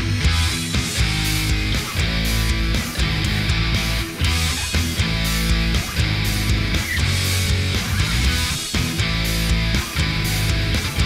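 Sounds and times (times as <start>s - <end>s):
rock music with electric guitar: 0.0s - 11.0s.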